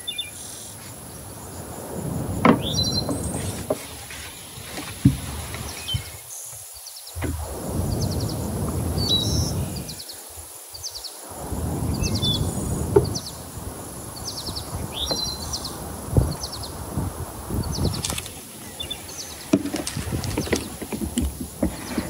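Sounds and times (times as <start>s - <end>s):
small birds chirping trills: 0.0s - 22.0s.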